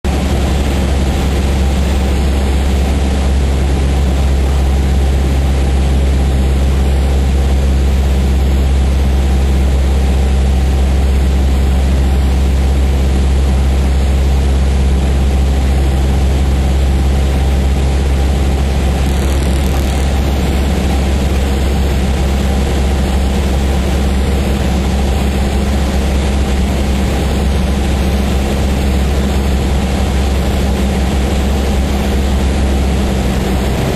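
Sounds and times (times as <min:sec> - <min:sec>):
propeller plane engine droning: 0:00.0 - 0:33.9.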